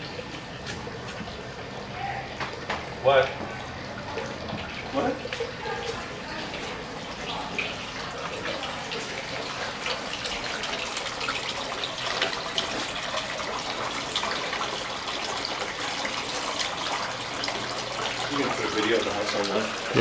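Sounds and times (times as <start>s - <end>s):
fountain water splashing: 3.1s - 20.0s.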